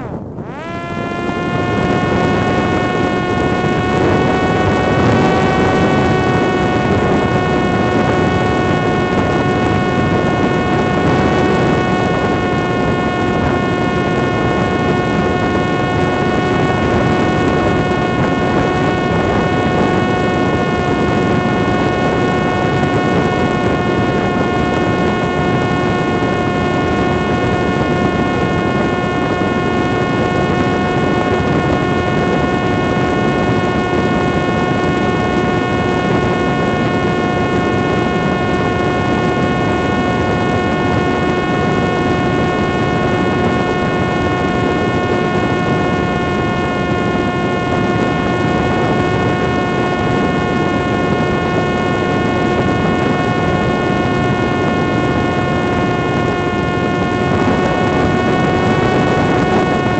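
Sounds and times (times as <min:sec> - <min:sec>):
propeller motor droning: 0:00.0 - 0:59.9.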